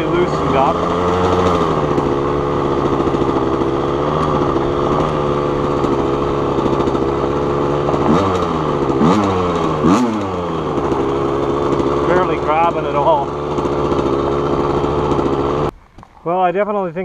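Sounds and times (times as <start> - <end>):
two-stroke motorcycle engine revving: 0.0 - 16.6.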